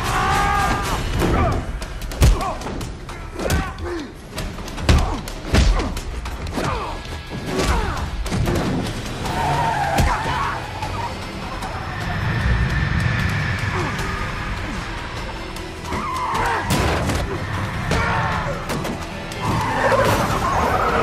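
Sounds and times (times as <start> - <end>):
film score music: 0.0 - 21.0.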